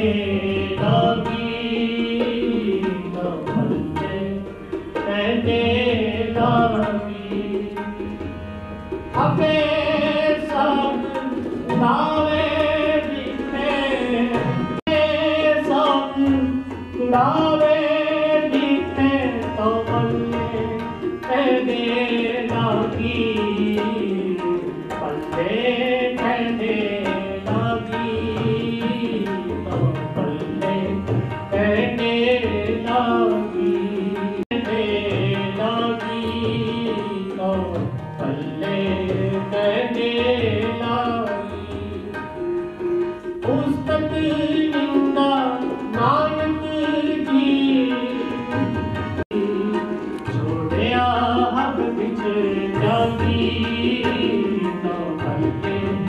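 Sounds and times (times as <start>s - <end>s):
person singing devotional melody: 0.0s - 56.0s
tabla: 0.0s - 56.0s.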